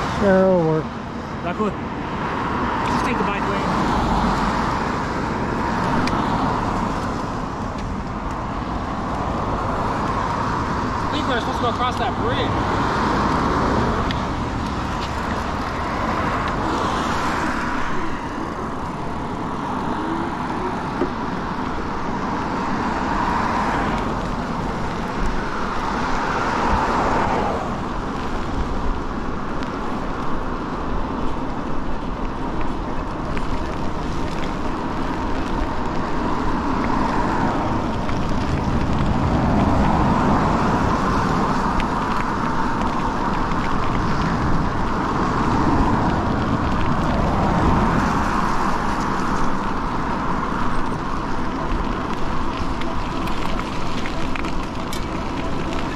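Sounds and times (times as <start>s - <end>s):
cars passing on wet road: 0.0s - 55.9s
low traffic rumble: 0.0s - 55.9s.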